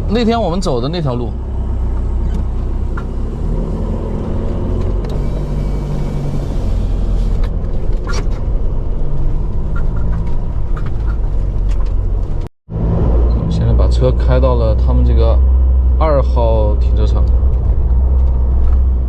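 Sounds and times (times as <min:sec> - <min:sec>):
motorhome engine droning: 0:00.0 - 0:19.0.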